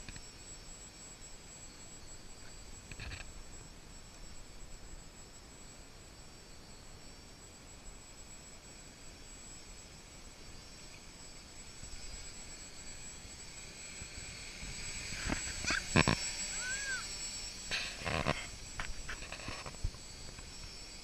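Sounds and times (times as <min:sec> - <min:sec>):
quadcopter motors whining: 0:00.0 - 0:04.6, 0:08.7 - 0:21.0.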